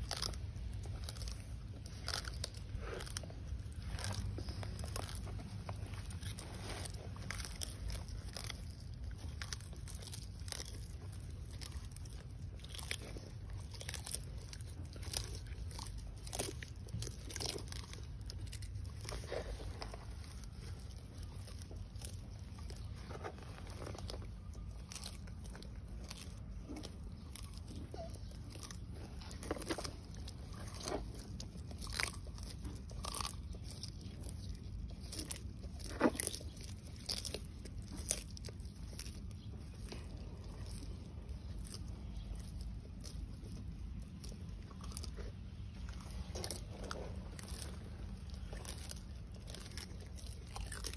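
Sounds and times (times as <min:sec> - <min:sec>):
low steady hum: 0:00.0 - 0:50.9
tortoises chewing grass: 0:00.0 - 0:50.9.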